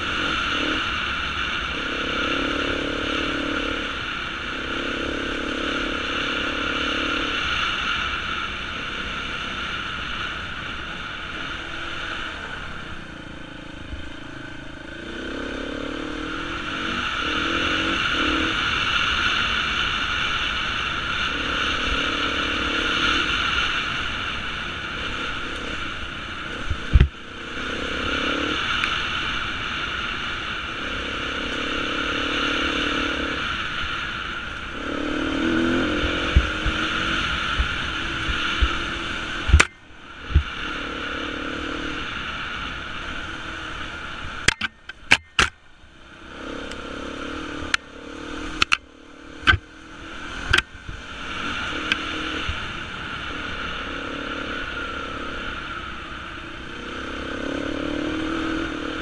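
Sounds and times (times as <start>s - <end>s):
dirt bike engine revving: 0.0s - 10.3s, 11.0s - 45.5s, 46.2s - 56.0s, 56.6s - 59.0s.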